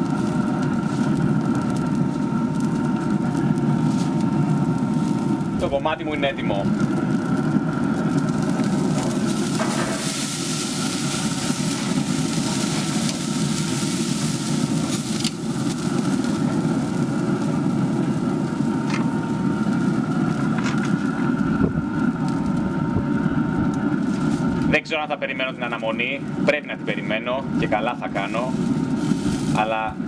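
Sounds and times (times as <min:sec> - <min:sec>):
grill fan whirring: 0:00.0 - 0:30.0
steak sizzling on grate: 0:00.0 - 0:30.0.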